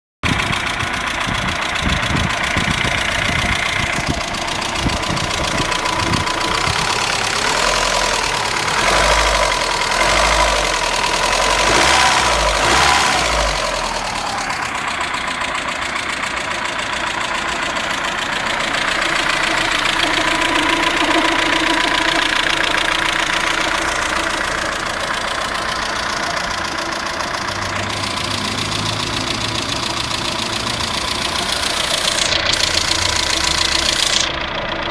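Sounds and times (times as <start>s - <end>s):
car engine idling with abnormal noise: 0.2s - 34.9s.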